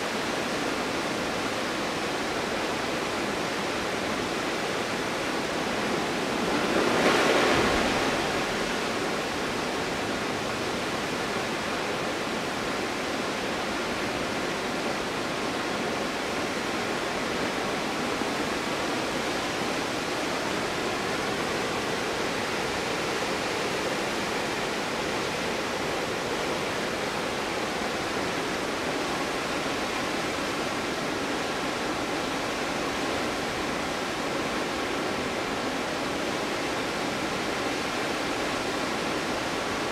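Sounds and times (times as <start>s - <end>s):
waterfall: 0.0s - 39.9s.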